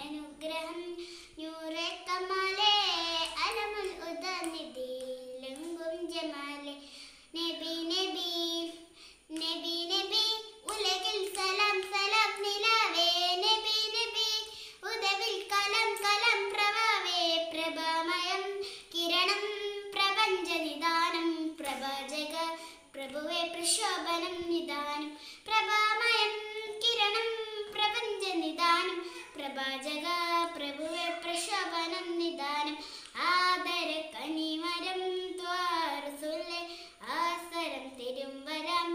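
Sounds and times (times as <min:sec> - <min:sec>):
girl singing: 0:00.0 - 0:38.9.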